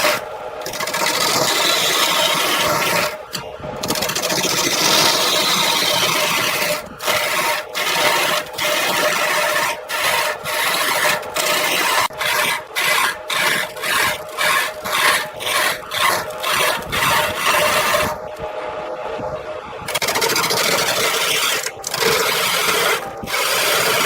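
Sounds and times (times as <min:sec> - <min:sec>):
tool scraping spinning wood: 0:00.0 - 0:18.5, 0:19.9 - 0:24.0
wood lathe humming: 0:00.0 - 0:18.8, 0:19.4 - 0:24.0.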